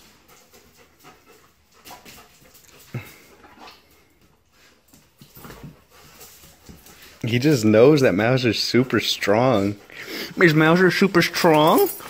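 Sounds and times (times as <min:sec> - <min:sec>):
dog paws scuffling on concrete: 0:00.0 - 0:12.0.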